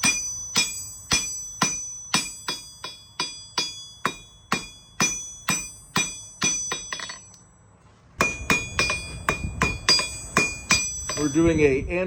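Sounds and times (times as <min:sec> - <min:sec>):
hammer ringing on anvil: 0:00.0 - 0:07.6, 0:08.2 - 0:11.9.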